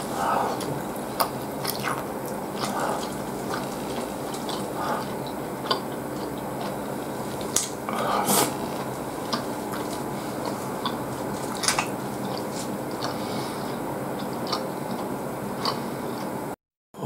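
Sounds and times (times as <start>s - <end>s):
slurping noodles: 0.0s - 13.8s
wet chewing and mouth smacks: 0.5s - 16.4s.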